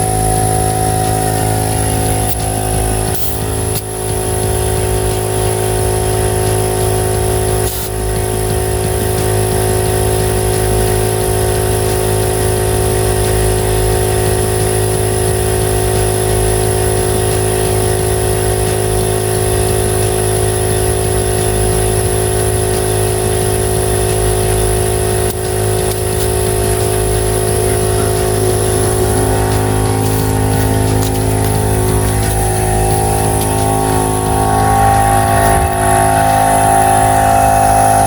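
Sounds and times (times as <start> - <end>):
air compressor running: 0.0 - 38.0.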